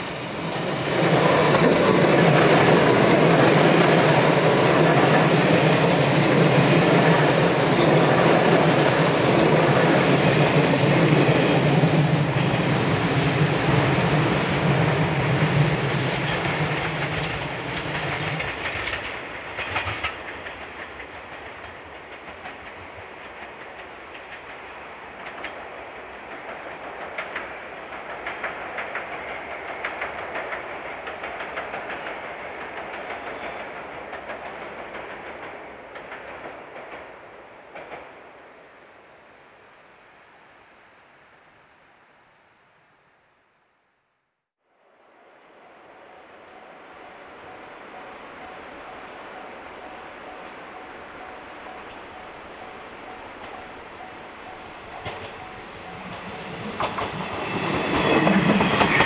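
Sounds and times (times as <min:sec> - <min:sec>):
train wheels clacking: 0:00.0 - 0:38.2, 0:46.4 - 0:59.0
soft train rumble: 0:00.0 - 0:42.2, 0:44.6 - 0:59.0.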